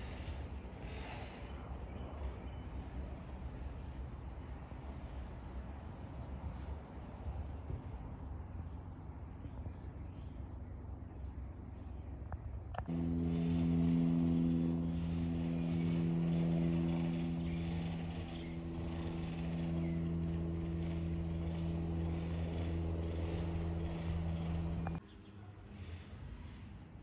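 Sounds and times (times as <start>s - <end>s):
propeller aircraft droning overhead: 0.0s - 25.2s.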